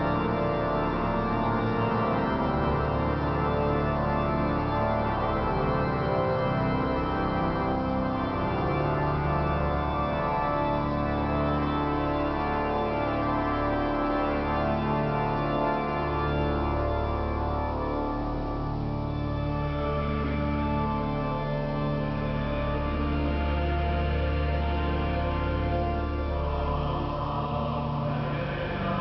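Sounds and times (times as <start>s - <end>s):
pipe organ chords: 0.0s - 29.0s.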